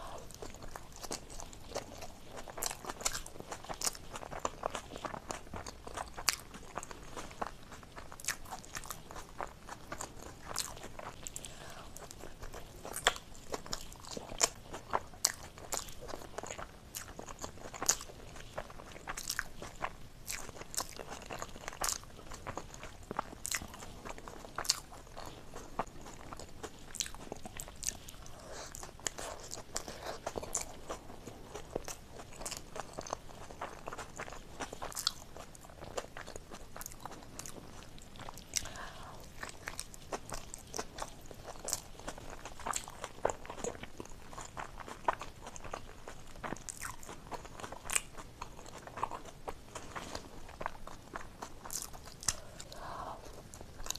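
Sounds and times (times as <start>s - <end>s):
close chewing and mouth sounds: 0.0s - 53.9s.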